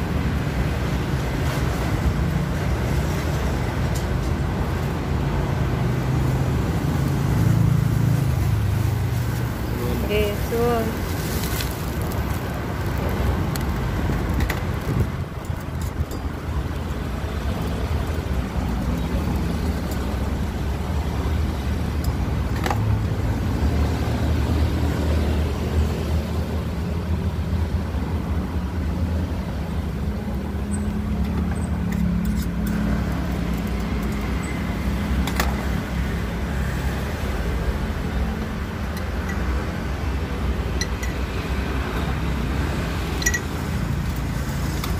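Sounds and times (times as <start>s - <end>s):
road traffic noise: 0.0s - 44.9s.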